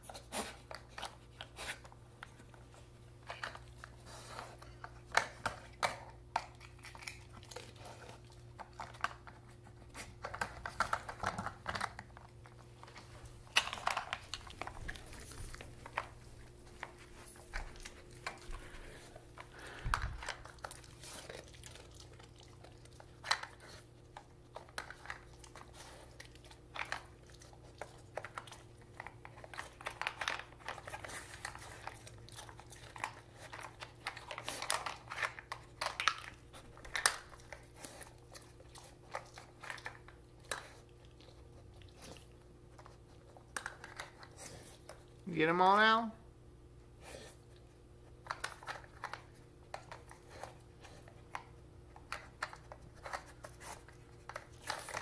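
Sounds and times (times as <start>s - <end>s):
dog chewing treats: 0.0s - 45.3s, 47.0s - 55.0s.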